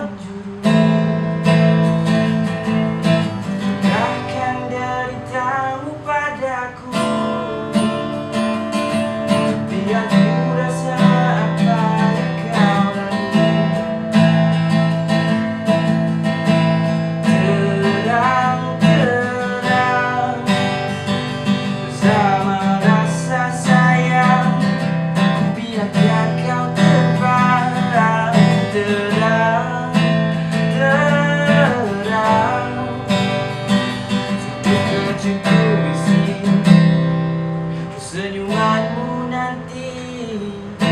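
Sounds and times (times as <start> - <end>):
person singing: 0.0 - 1.3, 3.2 - 8.1, 9.3 - 14.1, 17.0 - 33.6, 34.3 - 36.8, 37.7 - 40.9
strummed acoustic guitar: 0.0 - 40.9.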